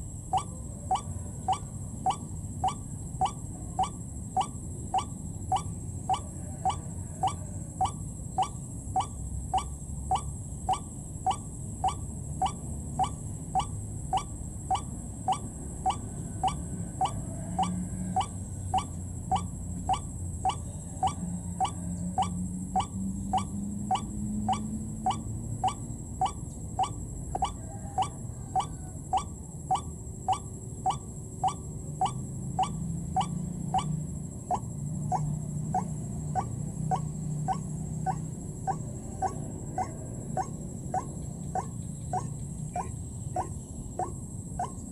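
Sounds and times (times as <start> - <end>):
bird calling rising note: 0.3 - 44.8.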